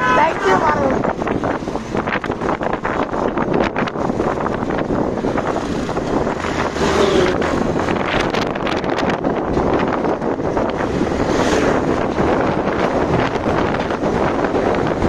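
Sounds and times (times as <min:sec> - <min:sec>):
motorbike engine and road hum: 0:00.0 - 0:15.0
wind buffeting microphone: 0:00.0 - 0:15.0.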